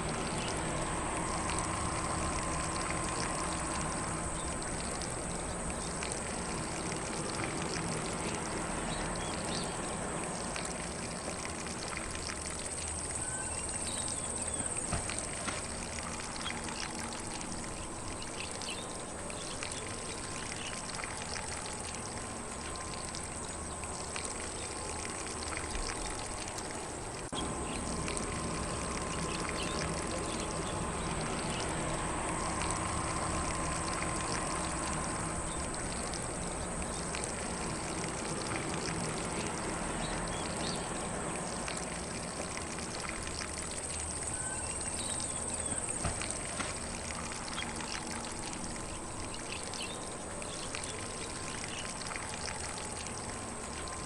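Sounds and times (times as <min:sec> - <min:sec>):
sprinkler spraying water: 0:00.0 - 0:54.0.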